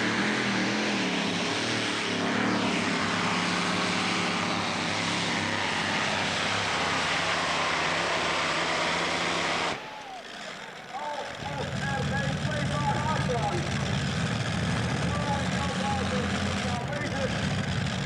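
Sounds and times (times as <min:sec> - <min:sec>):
tractor engines at full power: 0:00.0 - 0:18.0.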